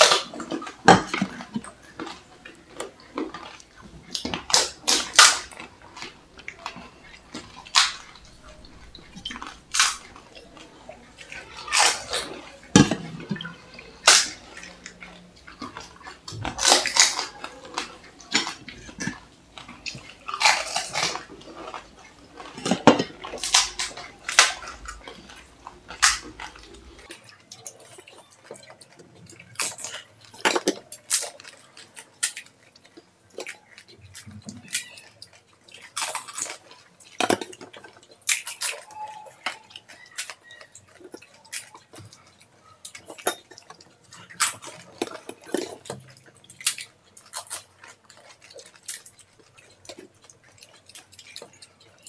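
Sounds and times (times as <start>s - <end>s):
crisp shells cracking: 0.0s - 52.0s
crunching and chewing: 0.0s - 52.0s.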